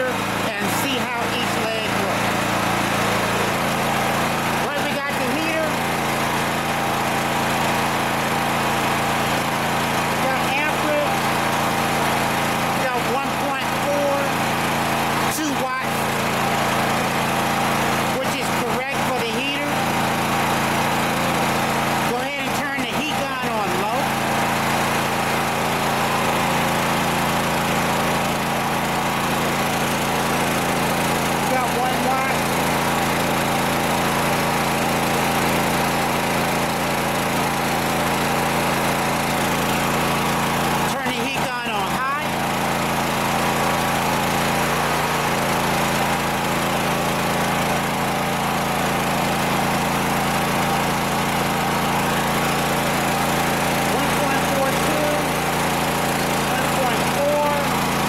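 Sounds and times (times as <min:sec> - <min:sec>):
portable generator running: 0:00.0 - 0:58.0.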